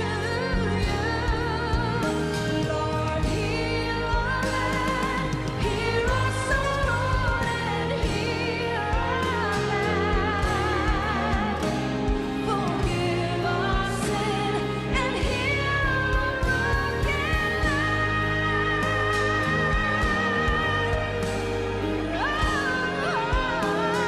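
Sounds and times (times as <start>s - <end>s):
band with bass and beat: 0.0s - 24.0s
person singing: 0.0s - 24.0s.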